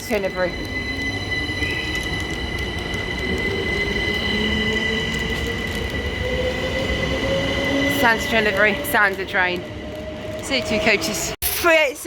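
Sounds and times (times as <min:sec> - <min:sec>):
train wheels rumbling on rail: 0:00.0 - 0:11.4
high-pitched train motor whine: 0:00.1 - 0:11.4.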